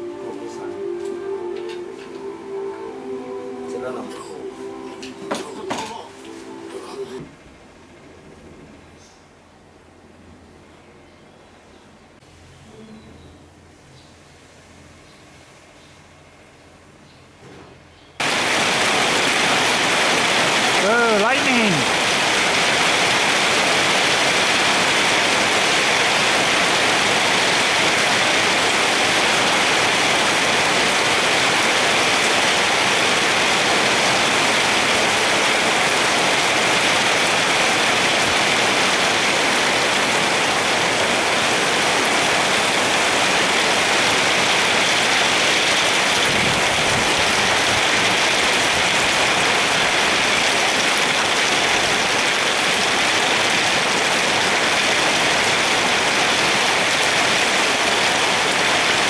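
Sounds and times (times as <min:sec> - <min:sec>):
rain falling steadily: 0:00.0 - 0:07.2, 0:18.2 - 0:59.0.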